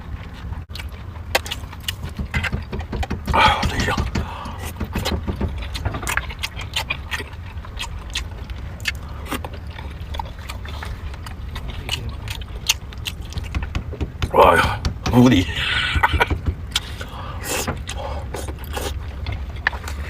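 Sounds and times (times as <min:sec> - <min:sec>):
chewing: 0:00.0 - 0:20.0
steady low hum: 0:00.0 - 0:20.0.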